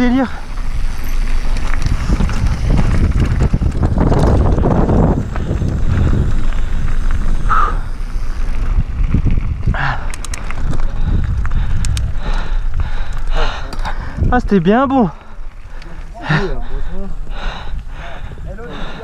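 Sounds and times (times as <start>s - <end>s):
tyres crunching on gravel: 0.0s - 17.3s
bike rattling over stones: 0.0s - 19.0s
wind buffeting microphone: 0.0s - 19.0s.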